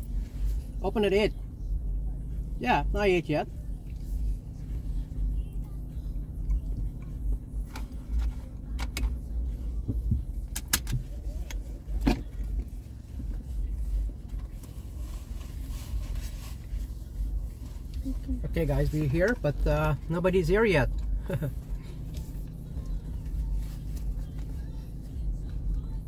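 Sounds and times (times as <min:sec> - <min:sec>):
car engine idling: 0:00.0 - 0:26.0
low hum: 0:00.0 - 0:26.0.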